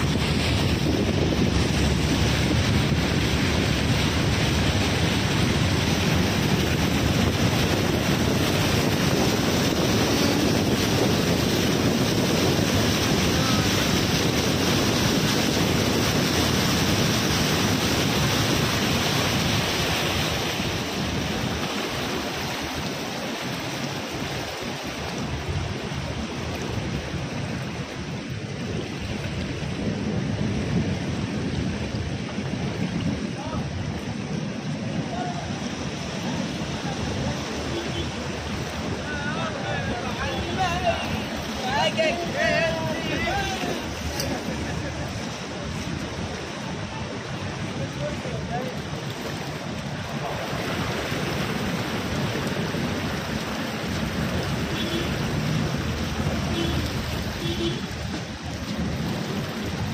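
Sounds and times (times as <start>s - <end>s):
floodwater rushing: 0.0s - 59.9s
heavy rain: 0.0s - 59.9s
wind buffeting microphone: 0.0s - 59.9s.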